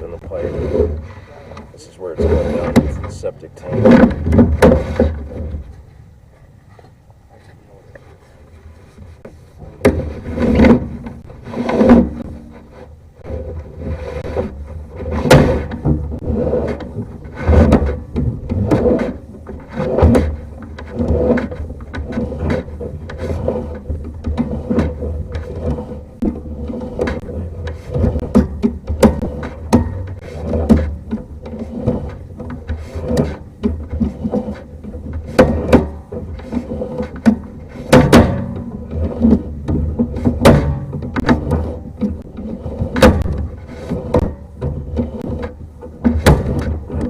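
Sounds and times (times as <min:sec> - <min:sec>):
cable scraping and knocking in pipe: 0:00.0 - 0:47.0.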